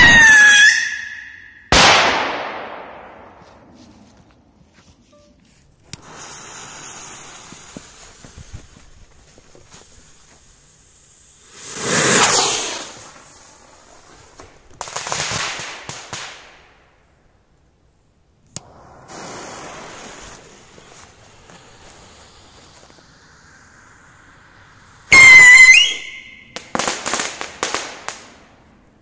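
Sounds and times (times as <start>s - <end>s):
firework rockets hissing: 0.0s - 4.2s, 5.8s - 16.7s, 18.5s - 28.9s
firework cracks and crackling: 0.0s - 4.4s, 5.8s - 17.2s, 18.5s - 29.0s.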